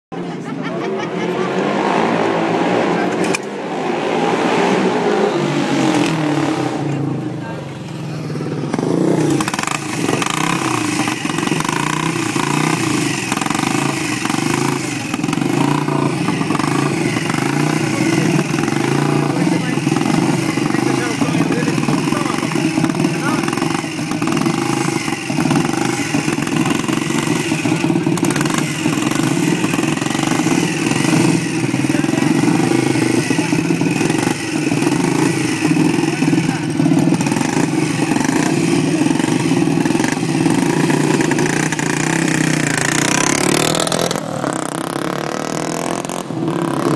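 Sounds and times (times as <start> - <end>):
motorcycle engine idling and revving: 0.1 - 46.9.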